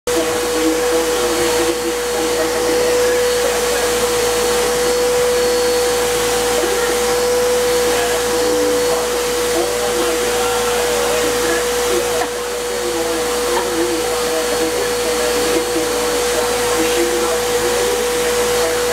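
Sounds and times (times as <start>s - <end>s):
vacuum cleaner running: 0.1s - 18.9s.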